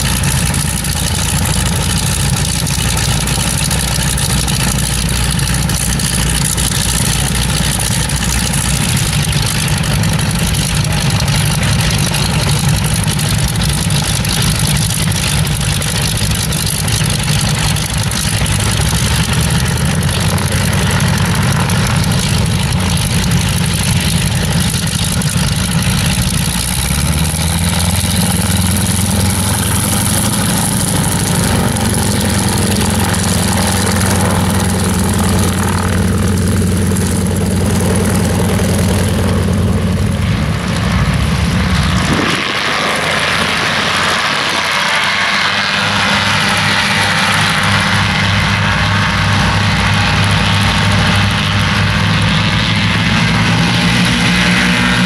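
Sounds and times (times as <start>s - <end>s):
propeller aircraft engines idling: 0.0s - 55.0s.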